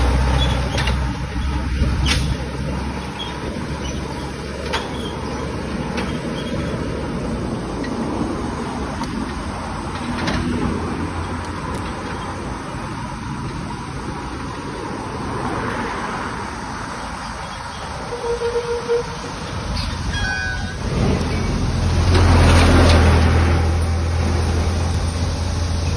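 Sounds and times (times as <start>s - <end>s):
bicycle road noise: 0.0s - 25.9s
motor traffic passing: 0.0s - 25.9s.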